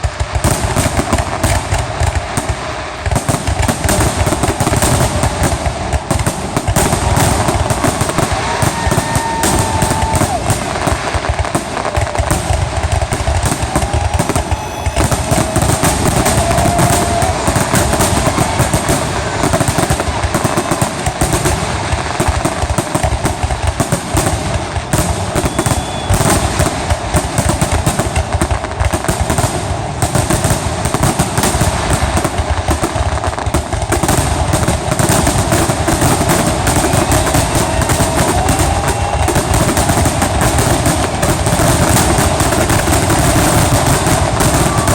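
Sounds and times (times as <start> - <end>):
faint fireworks whistles: 0.0 - 44.9
fireworks bangs and crackling: 0.0 - 44.9.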